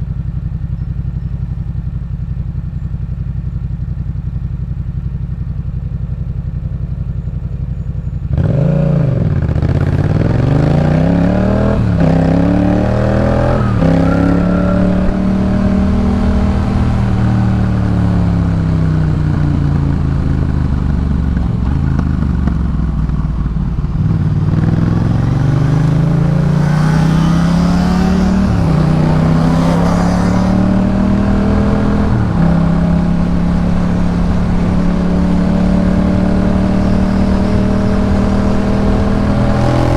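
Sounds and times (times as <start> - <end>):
motorcycle engine accelerating: 0.0 - 39.9
quick gear upshifts: 5.9 - 39.9.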